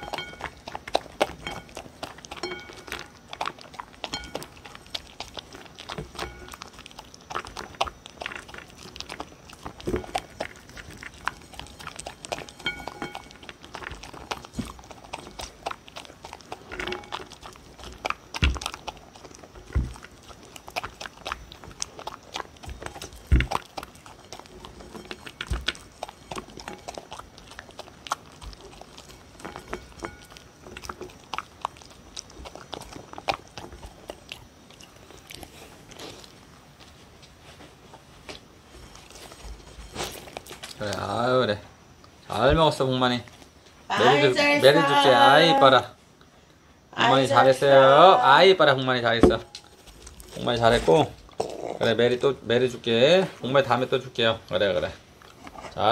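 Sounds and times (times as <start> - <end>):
dog crunching and chewing food: 0.0 - 55.9.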